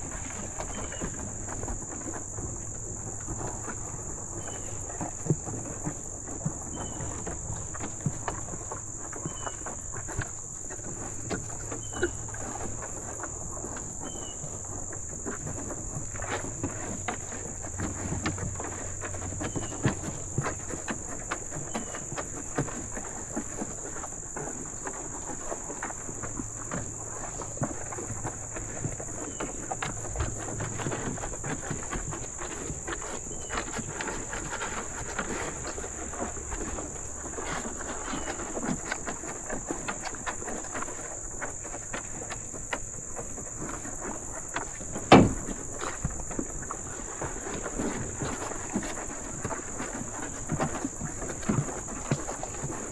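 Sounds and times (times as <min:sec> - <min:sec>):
cattle crunching feed: 0:00.0 - 0:52.9.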